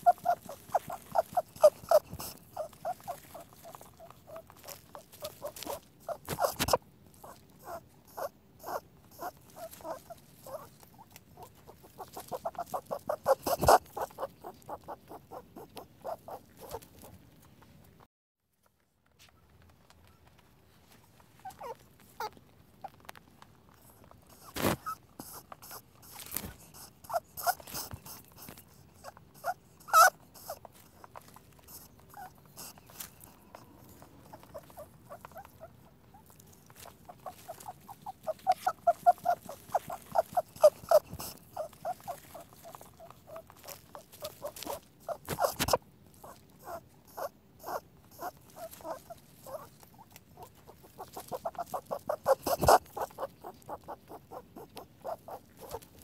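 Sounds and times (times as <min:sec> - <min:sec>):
rabbit squeaks and clicks: 0:00.0 - 0:18.0, 0:19.2 - 0:56.0.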